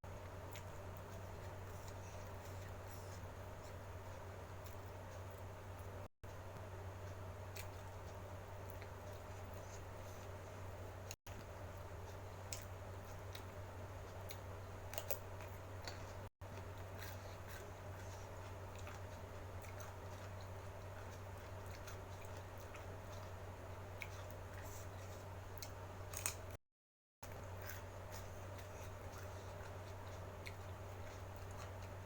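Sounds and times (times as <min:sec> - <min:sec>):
chewing food: 0:00.0 - 0:26.6, 0:27.2 - 0:32.0
steady low hum: 0:00.0 - 0:26.6, 0:27.2 - 0:32.0.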